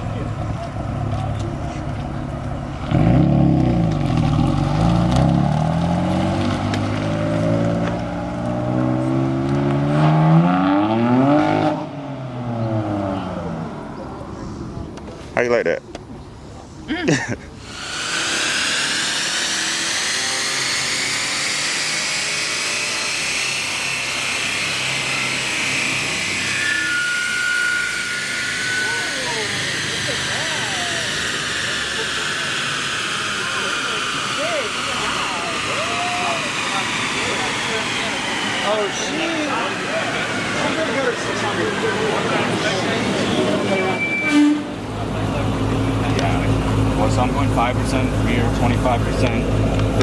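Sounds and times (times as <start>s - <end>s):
car engine running: 0.0s - 10.0s, 17.5s - 26.8s, 27.5s - 50.0s.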